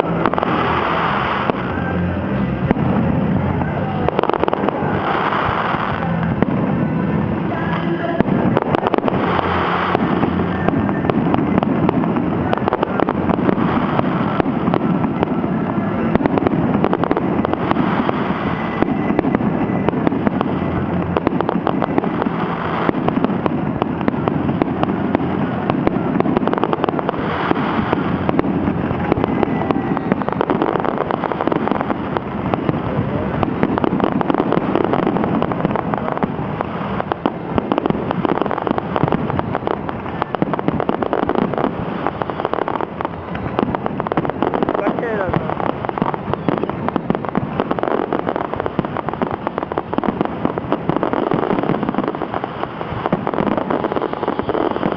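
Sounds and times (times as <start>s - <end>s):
fireworks bursting and crackling: 0.0s - 54.9s.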